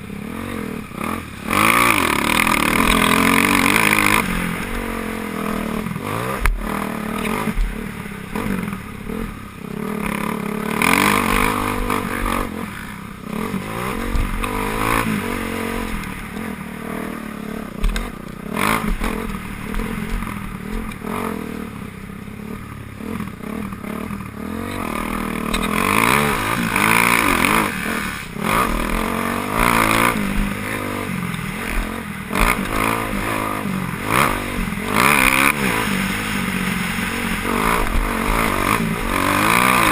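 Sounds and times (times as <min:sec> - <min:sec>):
motocross motorcycles revving past: 0:00.0 - 0:39.9.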